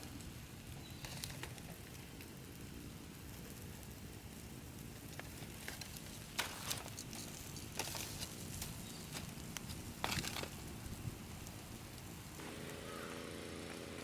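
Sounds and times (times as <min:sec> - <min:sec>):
sharp pops from fire: 0:00.0 - 0:13.0
low steady hiss: 0:00.0 - 0:14.0
wood fire crackling: 0:00.0 - 0:14.0.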